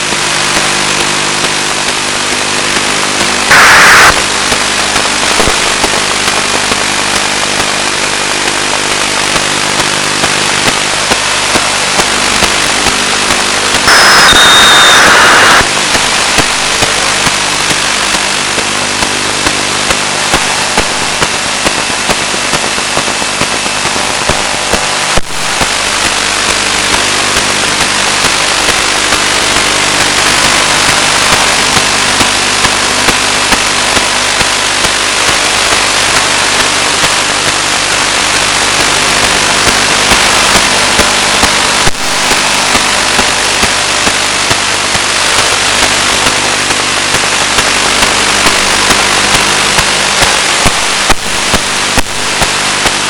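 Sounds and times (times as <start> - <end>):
static hiss: 0.0 - 53.0.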